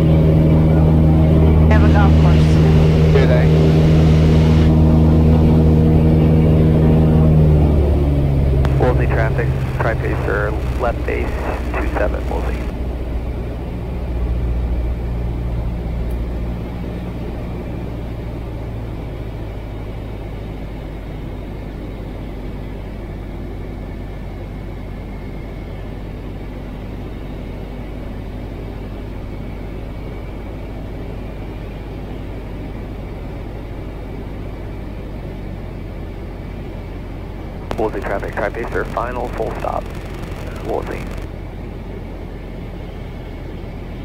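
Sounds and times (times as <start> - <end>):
light aircraft engine droning: 0.0 - 44.0.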